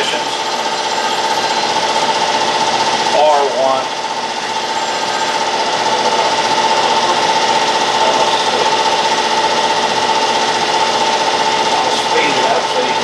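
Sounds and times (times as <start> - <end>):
grinder machine humming and chattering: 0.0 - 13.0.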